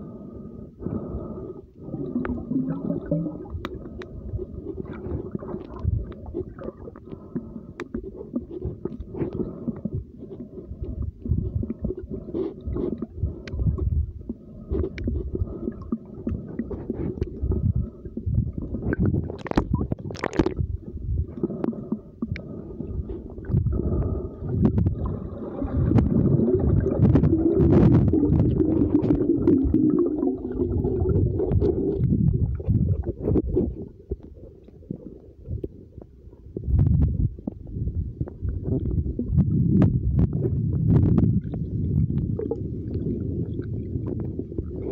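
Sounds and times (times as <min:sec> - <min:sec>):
muffled underwater gurgling: 0:00.0 - 0:44.9.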